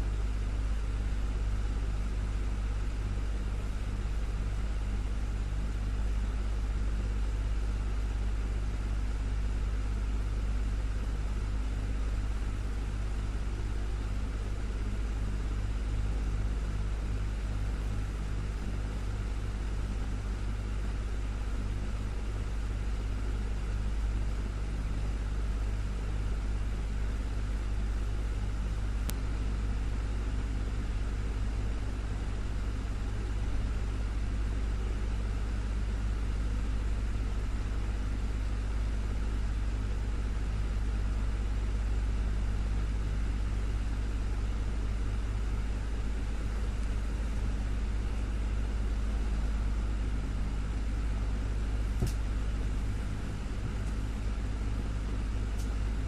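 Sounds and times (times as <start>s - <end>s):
desktop fan whirring: 0.0s - 56.0s.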